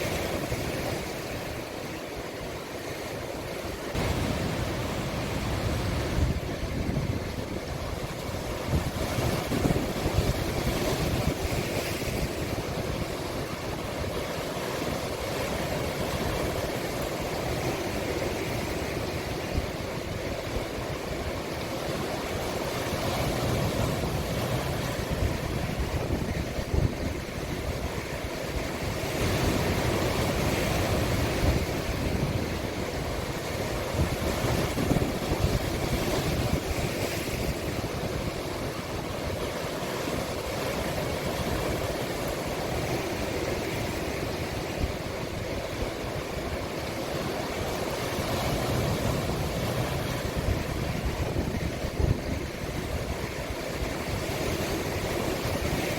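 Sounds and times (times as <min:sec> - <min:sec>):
sea waves breaking: 0:00.0 - 0:55.9
wind buffeting microphone: 0:03.9 - 0:21.6, 0:22.3 - 0:55.9.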